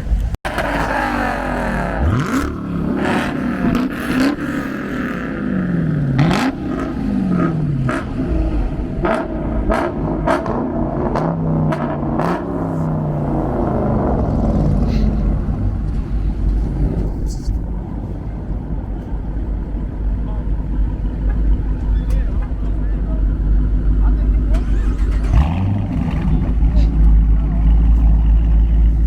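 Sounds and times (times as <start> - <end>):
car engines revving: 0.0 - 29.0
low rumble: 0.0 - 29.0.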